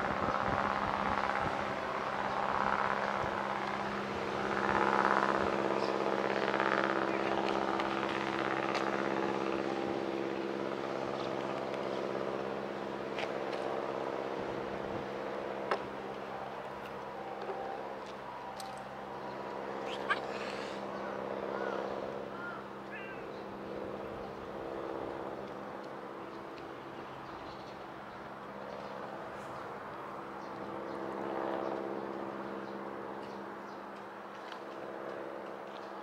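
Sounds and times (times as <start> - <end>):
engine droning: 0.0 - 36.0.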